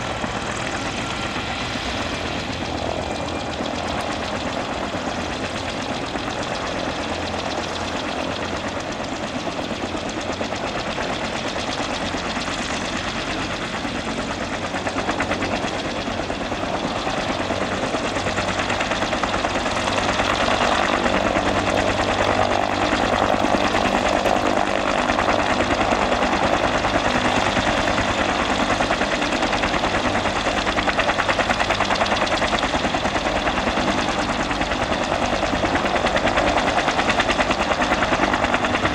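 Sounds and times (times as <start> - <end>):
helicopter engine running: 0.0 - 38.9.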